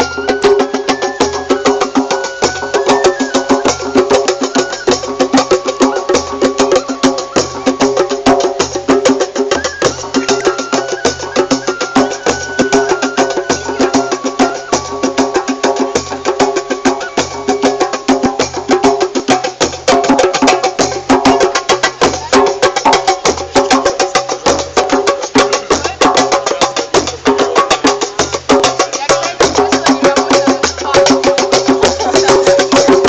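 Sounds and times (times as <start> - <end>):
wooden percussion patter: 0.0 - 33.0.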